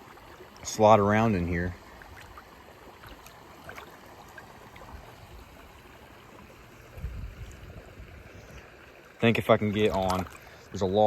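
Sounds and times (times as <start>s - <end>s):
creek water trickling around legs: 0.0s - 11.0s
faint splashes: 0.0s - 11.0s.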